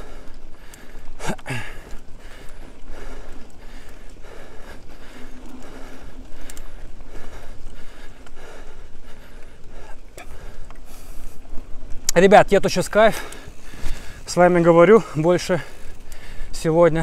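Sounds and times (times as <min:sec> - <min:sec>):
bike tyres on dirt: 0:00.0 - 0:17.0.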